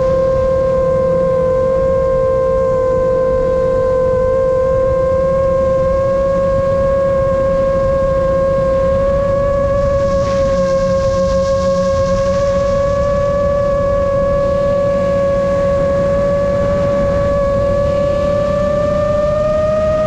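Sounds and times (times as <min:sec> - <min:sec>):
drone motors whining: 0:00.0 - 0:20.0
wind rumble on microphone: 0:00.0 - 0:20.0.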